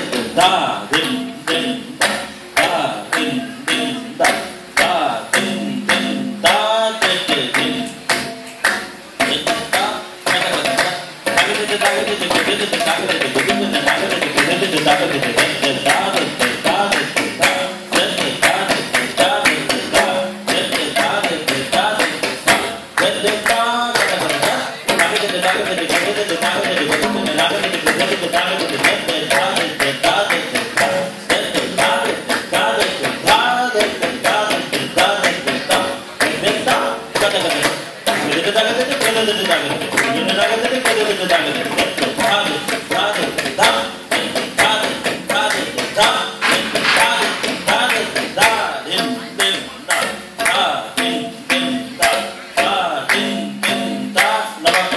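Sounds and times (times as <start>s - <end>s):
man singing: 0.0s - 8.2s, 9.2s - 54.9s
tablas played in unison: 0.0s - 54.9s.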